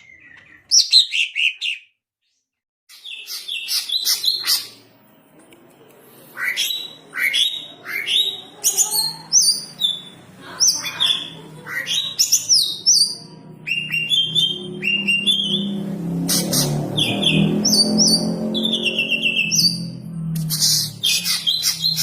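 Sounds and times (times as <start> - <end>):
birds singing: 0.0 - 5.0, 6.2 - 22.0.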